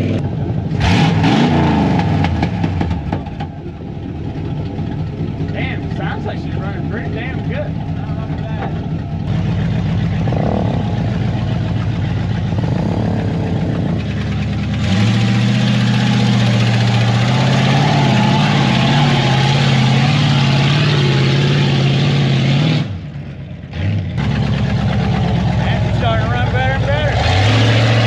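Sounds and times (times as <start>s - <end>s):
pickup engine revving: 0.0s - 28.0s.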